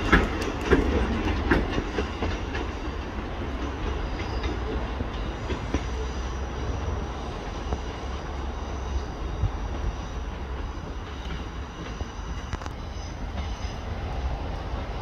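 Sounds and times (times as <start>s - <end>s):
low train rumble: 0.0s - 15.0s
train wheels clicking over rail joints: 0.0s - 15.0s.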